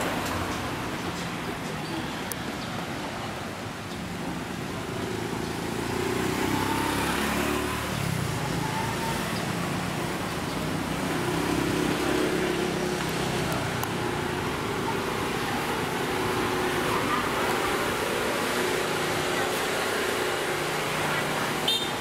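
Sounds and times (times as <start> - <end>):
steady traffic hum: 0.0 - 22.0
vehicles driving past: 0.0 - 22.0.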